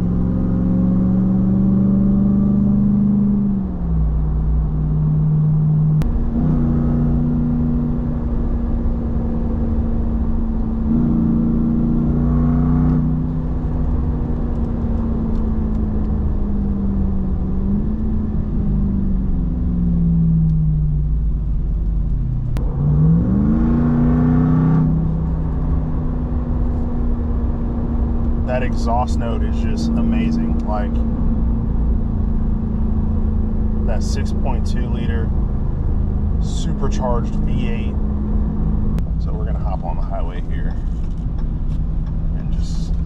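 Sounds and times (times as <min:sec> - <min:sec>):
supercharged engine revving: 0:00.0 - 0:20.3, 0:22.5 - 0:41.0
deep exhaust rumble: 0:00.0 - 0:43.0.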